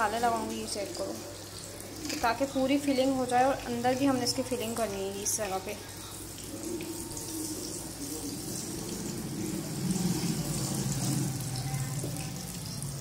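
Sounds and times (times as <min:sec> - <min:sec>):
oil sizzling in pan: 0:00.0 - 0:13.0.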